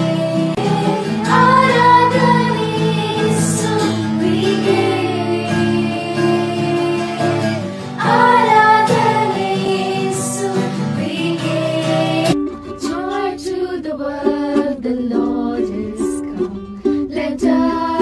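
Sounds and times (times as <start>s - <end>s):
instrumental backing: 0.0s - 18.0s
person singing: 0.0s - 18.0s
plucked string notes: 0.0s - 18.0s.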